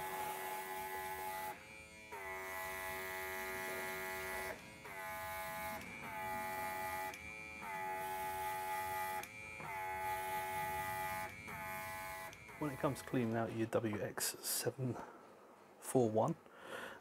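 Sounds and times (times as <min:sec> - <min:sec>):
electric compressor buzzing hum: 0:00.0 - 0:13.9.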